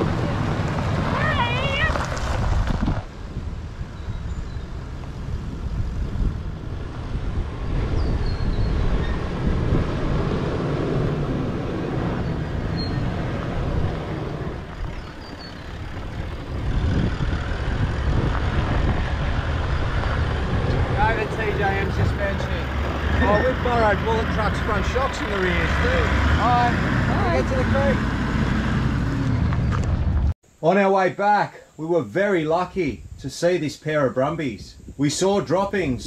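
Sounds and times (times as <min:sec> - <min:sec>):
truck engine and tyres rumbling: 0:00.0 - 0:30.4.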